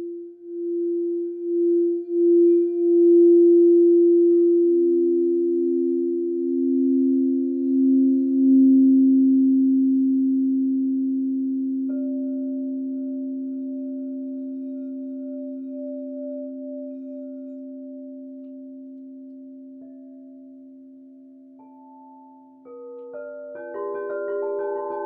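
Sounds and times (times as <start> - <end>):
low singing bowls ringing: 0.0 - 25.0.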